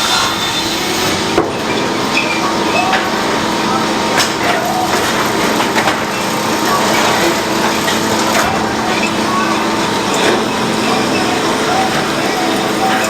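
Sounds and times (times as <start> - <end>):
sawmill machinery sawing: 0.0 - 13.0.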